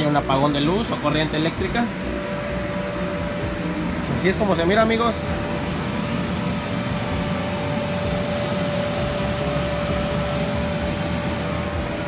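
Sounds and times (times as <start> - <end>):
electric blower running: 0.0 - 12.0.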